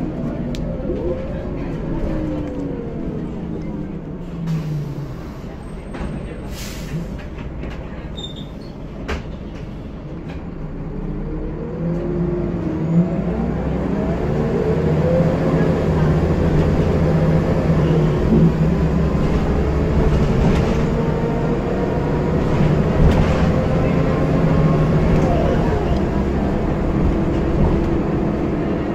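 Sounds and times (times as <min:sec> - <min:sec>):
diesel bus engine: 0:00.0 - 0:28.9.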